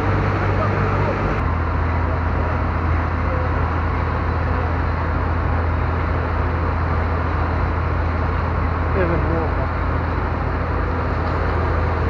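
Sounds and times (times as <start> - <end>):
ferry engine droning: 0.0 - 12.0
rushing water and air: 0.0 - 12.0.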